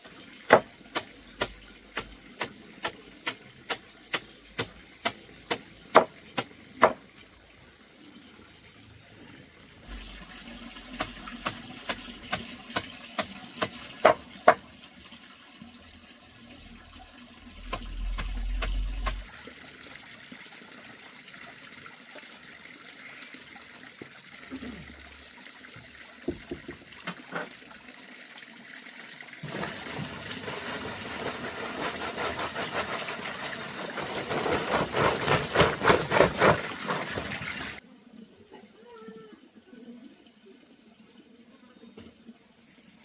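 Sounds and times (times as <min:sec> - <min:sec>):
running water: 0:00.0 - 0:43.0.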